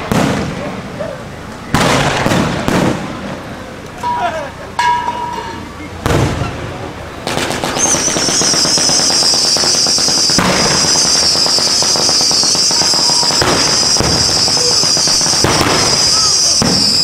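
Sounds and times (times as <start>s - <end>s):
loud firework bangs: 0.0s - 1.0s, 1.7s - 17.0s
fireworks crackling: 0.0s - 17.0s
steady high hiss: 0.1s - 17.0s.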